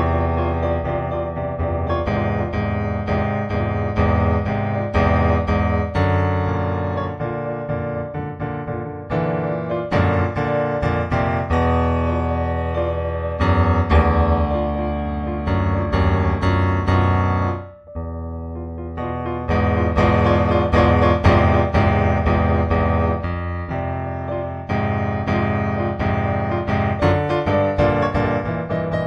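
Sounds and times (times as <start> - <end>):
solo piano music: 0.0 - 29.0.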